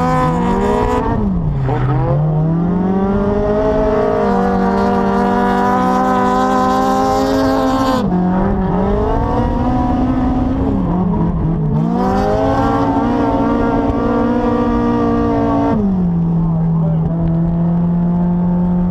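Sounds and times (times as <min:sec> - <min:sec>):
car engine at high revs: 0:00.0 - 0:18.9.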